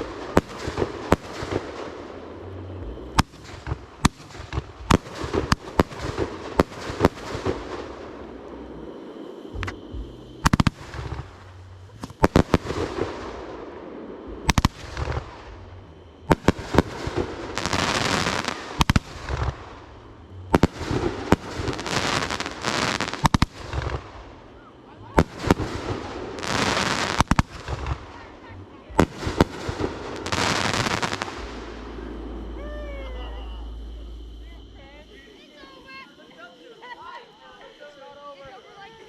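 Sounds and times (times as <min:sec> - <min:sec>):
fireworks bangs: 0:00.0 - 0:02.3, 0:03.1 - 0:34.7
fireworks crackling: 0:00.0 - 0:36.1.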